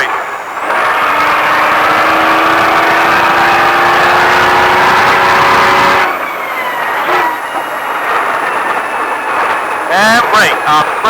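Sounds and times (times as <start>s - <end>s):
truck engine accelerating: 0.0s - 11.0s.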